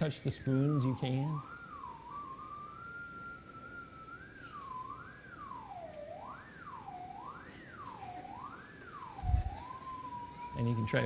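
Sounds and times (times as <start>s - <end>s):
theremin tone: 0.0s - 11.0s.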